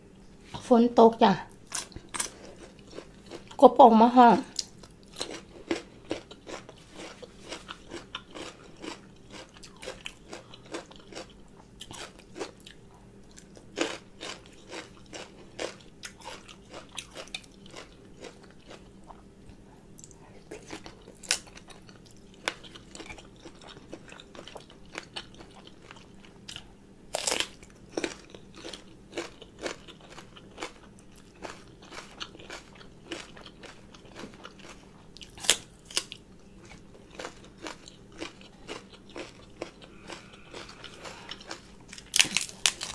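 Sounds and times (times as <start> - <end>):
crunching and wet chewing: 1.6 - 3.6, 4.5 - 42.9.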